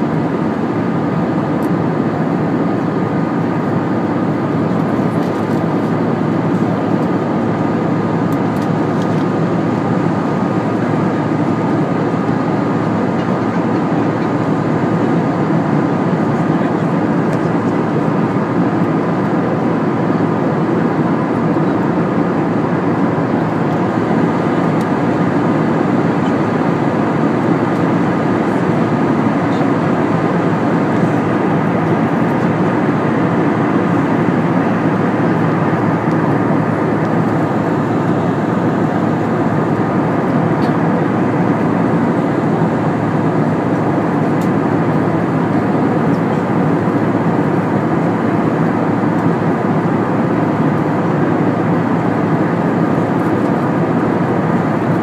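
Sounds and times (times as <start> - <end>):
faint steady whines: 0.0 - 55.0
jet engines running: 0.0 - 55.0.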